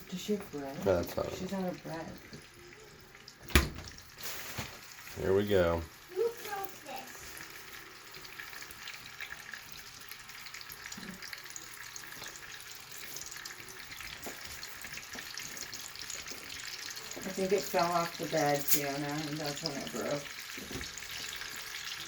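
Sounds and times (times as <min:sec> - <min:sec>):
meatballs sizzling in oil: 0:00.0 - 0:22.0.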